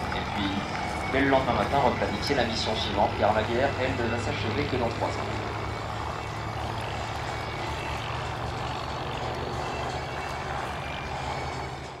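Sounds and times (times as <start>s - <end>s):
propeller aircraft engines rumbling: 0.0s - 12.0s.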